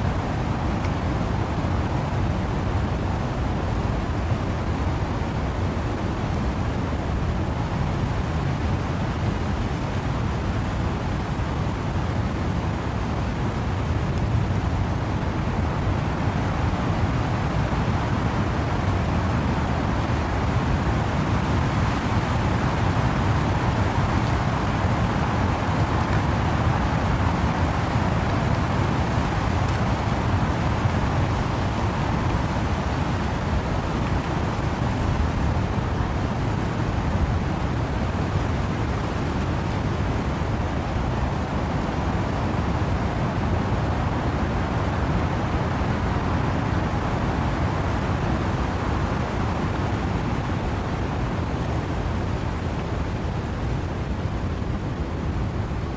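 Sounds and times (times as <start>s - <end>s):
wind-driven rain in trees: 0.0s - 55.9s.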